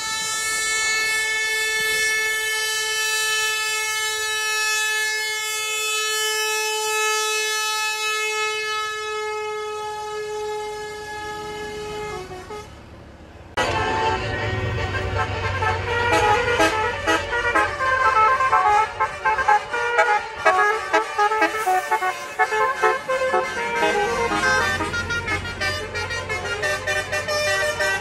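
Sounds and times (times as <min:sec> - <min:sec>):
bus air horn long note: 0:00.0 - 0:12.8, 0:13.6 - 0:28.0
road and vehicle noise: 0:00.0 - 0:28.0.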